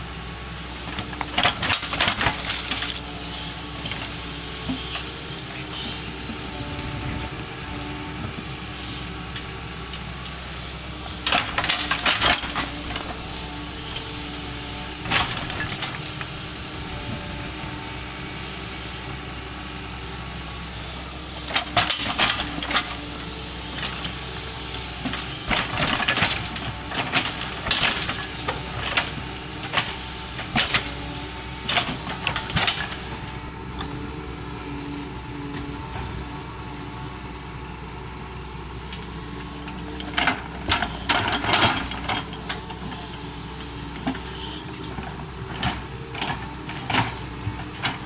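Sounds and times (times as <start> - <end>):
diesel engine running: 0.0 - 48.0
excavator bucket scraping and clanking: 0.8 - 17.8, 21.1 - 37.3, 38.8 - 48.0.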